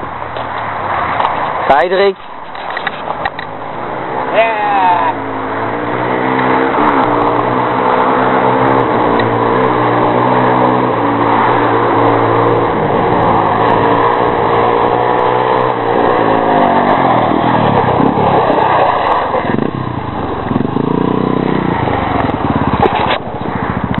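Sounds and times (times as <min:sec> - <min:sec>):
off-road motorcycle engine: 0:00.0 - 0:24.0
quad engine revving: 0:04.0 - 0:24.0.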